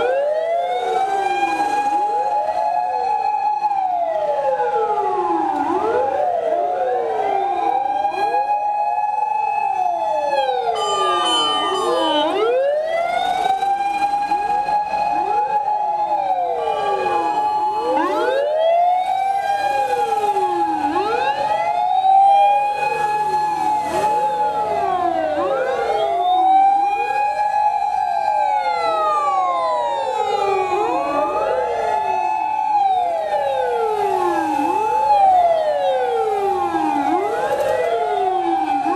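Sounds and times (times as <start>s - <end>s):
fire engine sirens wailing: 0.0s - 38.9s.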